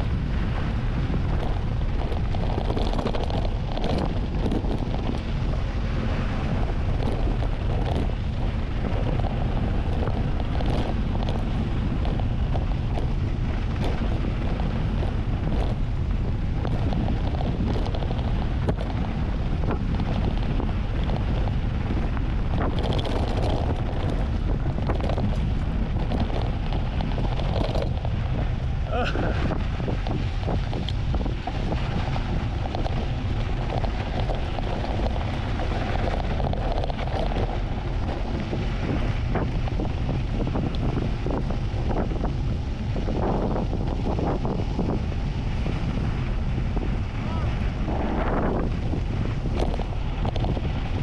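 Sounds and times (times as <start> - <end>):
bike clicks and rattles: 0.0 - 51.0
wind buffeting microphone: 0.0 - 51.0.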